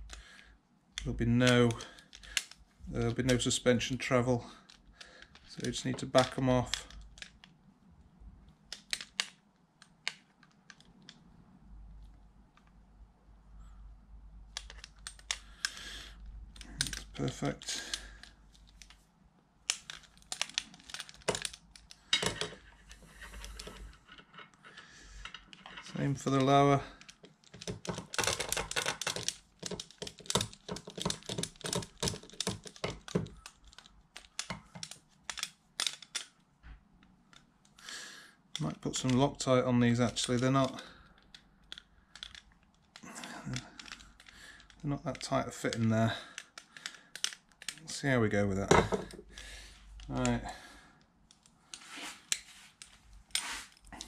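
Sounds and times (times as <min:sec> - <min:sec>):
light clicks and taps of tools: 0:00.0 - 0:07.6, 0:14.5 - 0:19.0, 0:19.7 - 0:37.9, 0:38.5 - 0:54.0.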